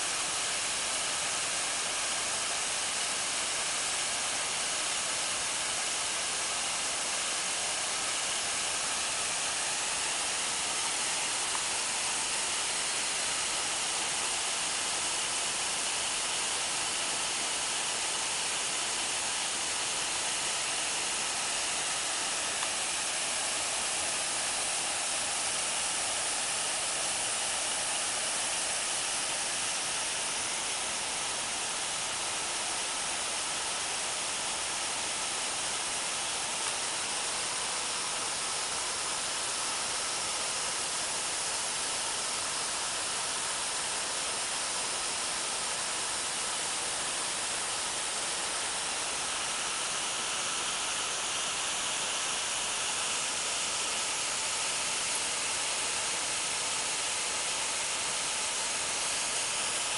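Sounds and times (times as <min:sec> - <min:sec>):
waterfall hiss: 0:00.0 - 0:59.9.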